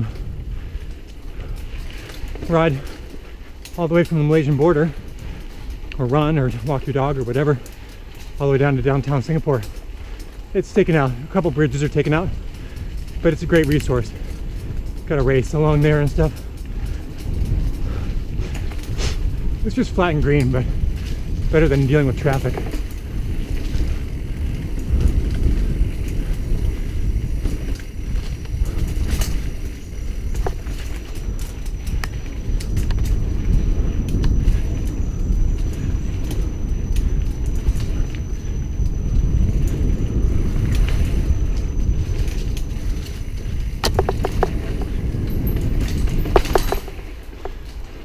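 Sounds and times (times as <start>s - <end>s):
bike clicks and rattles: 0.0s - 48.0s
bike tyres rumbling on dirt: 0.0s - 48.0s
wind on microphone: 0.0s - 48.0s.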